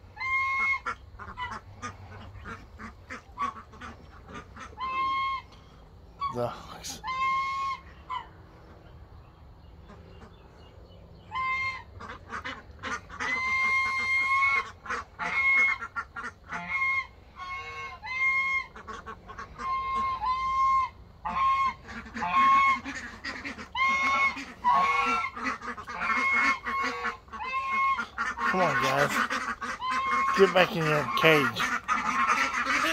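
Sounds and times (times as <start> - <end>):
geese honking: 0.0 - 32.9.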